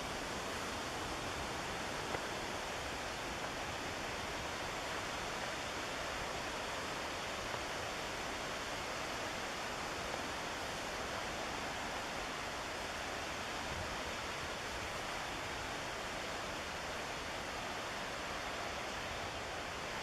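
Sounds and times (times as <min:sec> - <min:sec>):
river white water rushing: 0:00.0 - 0:20.0.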